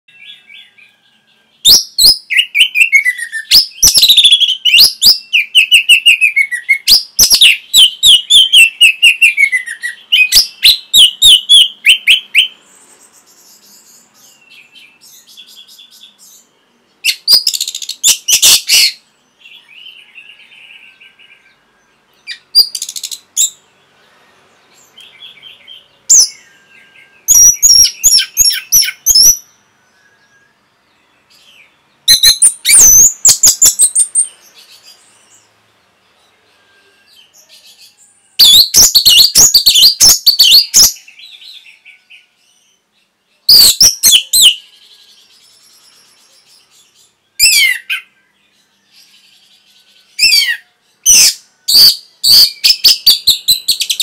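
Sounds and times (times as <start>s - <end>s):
bird twittering: 0.1s - 30.6s, 31.3s - 35.5s, 36.4s - 42.3s, 43.4s - 48.2s, 49.0s - 54.0s
thrush singing whistled notes: 0.1s - 54.0s.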